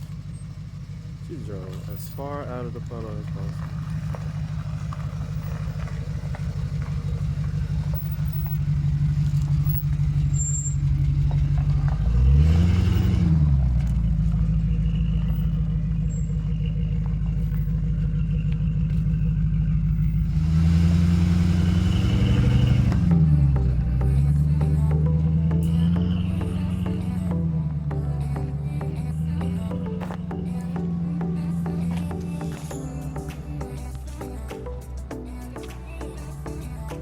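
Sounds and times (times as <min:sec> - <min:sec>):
car engine running and revving: 0:00.0 - 0:37.0.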